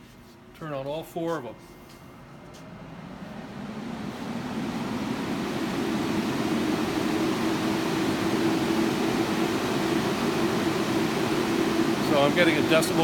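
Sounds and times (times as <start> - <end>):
exhaust fans rushing air: 0.0 - 13.0.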